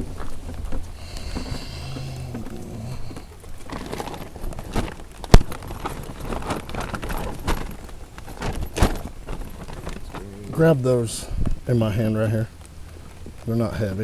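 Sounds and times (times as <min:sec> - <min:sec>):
footsteps: 0:00.0 - 0:13.9.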